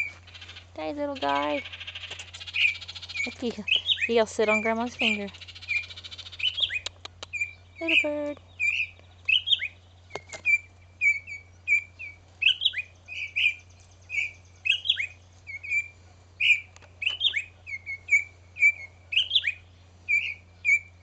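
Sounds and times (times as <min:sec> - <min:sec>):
songbird alarm chirps: 0:00.0 - 0:21.0.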